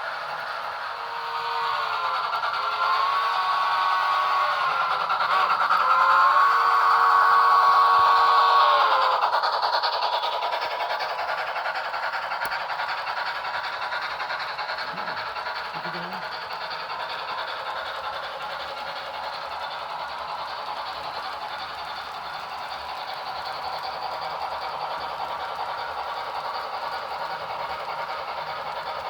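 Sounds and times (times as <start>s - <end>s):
steam locomotive chuffing: 0.0s - 29.0s.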